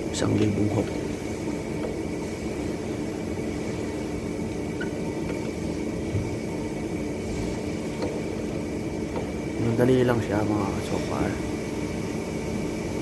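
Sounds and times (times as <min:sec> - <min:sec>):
welding arc humming and hissing: 0:00.0 - 0:13.0.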